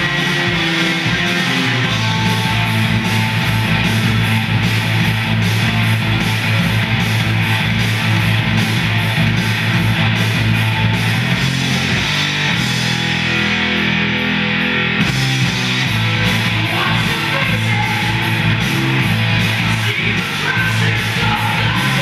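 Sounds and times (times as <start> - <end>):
drums: 0.0 - 22.0
electric guitar: 0.0 - 22.0.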